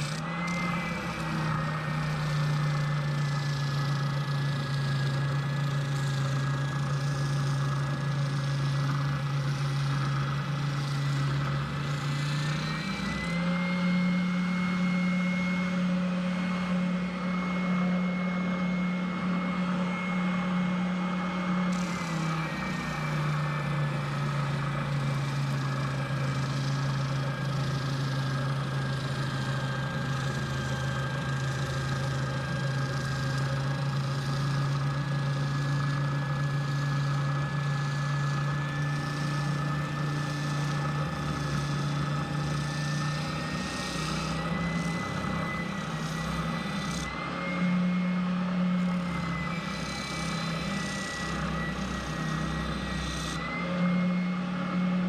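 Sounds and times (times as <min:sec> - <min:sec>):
electric power tool motor running: 0:00.0 - 0:55.0.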